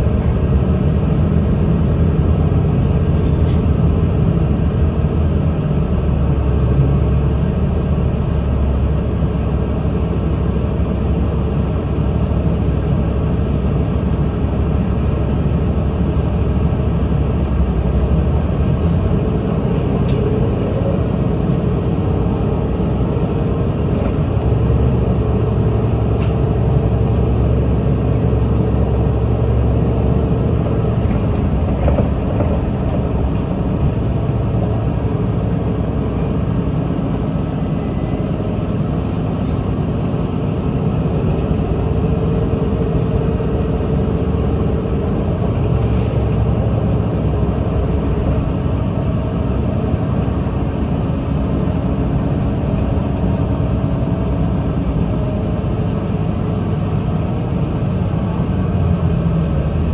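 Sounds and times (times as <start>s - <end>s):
bus engine droning: 0.0s - 59.9s.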